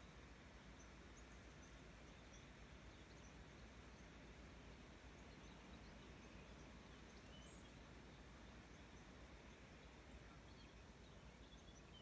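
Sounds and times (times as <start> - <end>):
distant bird chirps: 0.0 - 12.0
steady low hiss: 0.0 - 12.0.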